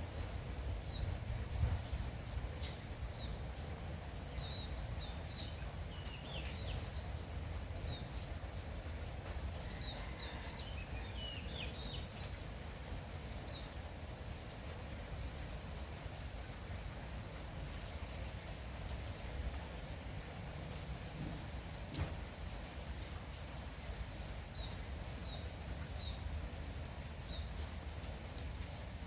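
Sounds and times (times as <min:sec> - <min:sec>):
small birds chirping: 0:00.0 - 0:17.1, 0:17.7 - 0:29.0
light rain pattering: 0:00.0 - 0:29.0.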